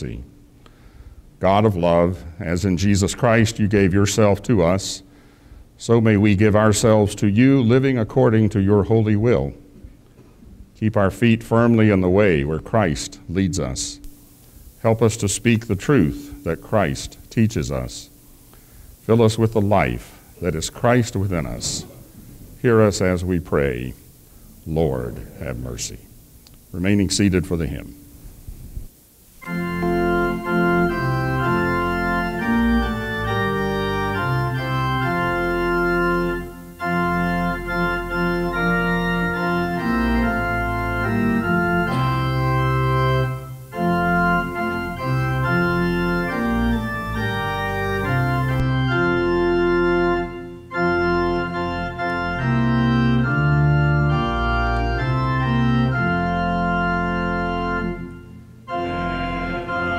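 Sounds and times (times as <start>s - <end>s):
organ playing hymn chords: 0.0s - 9.9s, 10.7s - 28.4s, 29.2s - 59.9s.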